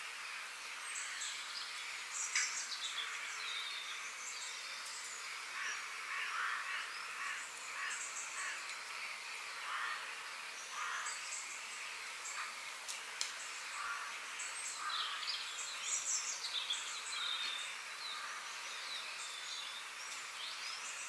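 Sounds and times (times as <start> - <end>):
insects: 0.0 - 21.0
birds chirping and calling: 0.8 - 21.0.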